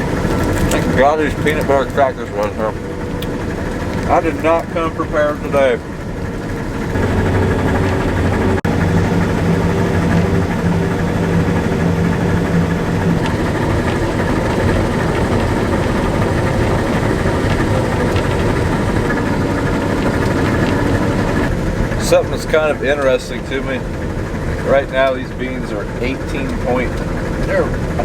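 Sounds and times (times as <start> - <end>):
combine harvester engine drone: 0.0 - 28.0
low hum: 0.0 - 28.0.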